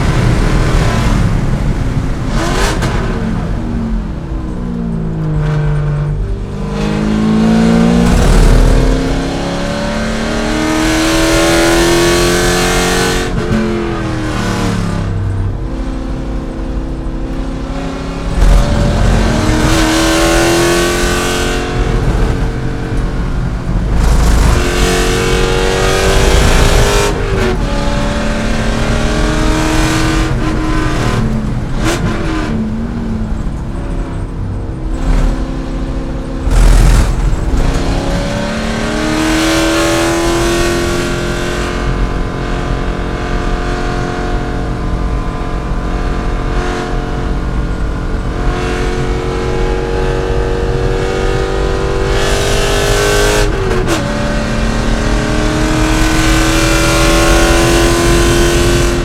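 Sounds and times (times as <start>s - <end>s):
racing car engine revving through gears: 0.0s - 59.0s.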